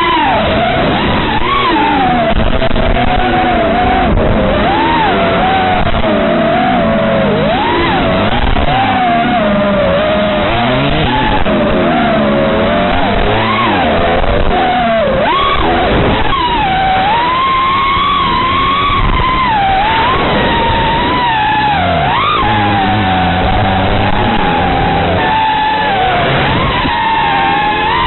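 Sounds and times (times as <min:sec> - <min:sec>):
dirt bike engine revving: 0:00.0 - 0:28.0
drone propellers whining: 0:00.0 - 0:28.0.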